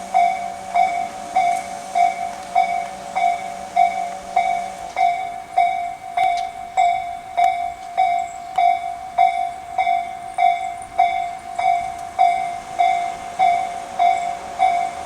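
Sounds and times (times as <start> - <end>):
level crossing warning bell ringing: 0.0 - 15.0.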